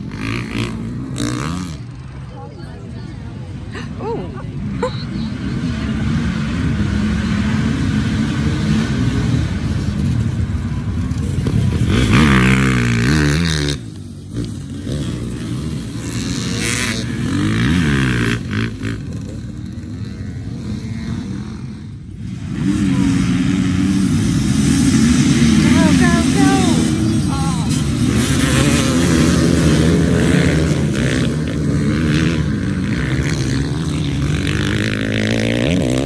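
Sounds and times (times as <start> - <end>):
dirt bike engines revving past: 0.0 - 36.0
pack of dirt bikes running: 0.0 - 36.0.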